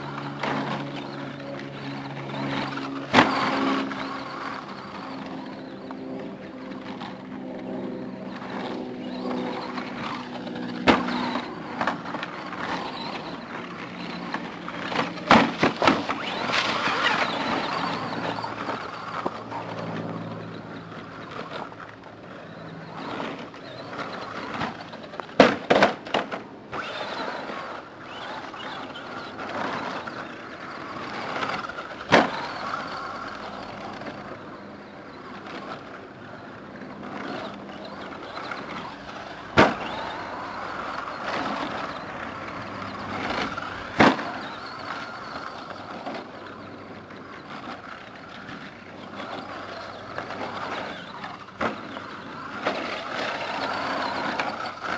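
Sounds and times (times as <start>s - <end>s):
electric motor whine: 0.0s - 54.9s
tyres on dirt: 0.0s - 54.9s.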